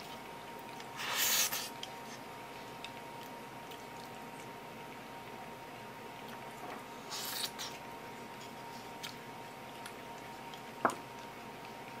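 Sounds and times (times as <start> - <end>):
faint high hum: 0.0 - 12.0.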